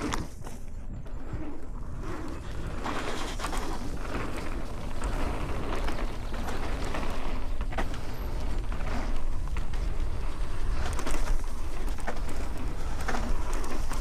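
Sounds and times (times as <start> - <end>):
bike clicks and rattles: 0.0 - 14.0
bike tyres on dirt: 0.0 - 14.0
wind rumble on microphone: 0.0 - 14.0.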